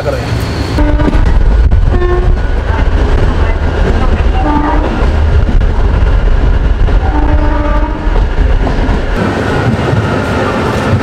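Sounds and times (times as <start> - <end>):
train rumbling on the track: 0.0 - 11.0.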